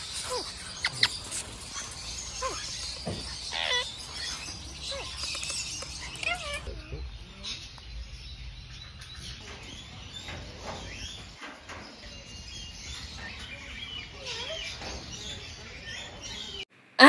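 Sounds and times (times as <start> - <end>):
caged birds chirping and whistling: 0.0 - 16.7.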